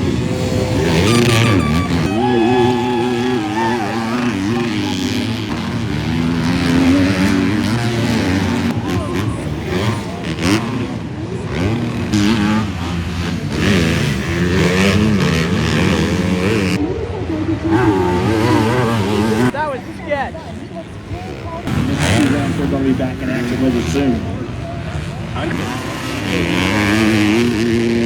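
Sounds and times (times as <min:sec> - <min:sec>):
motocross bikes racing past: 0:00.0 - 0:28.0.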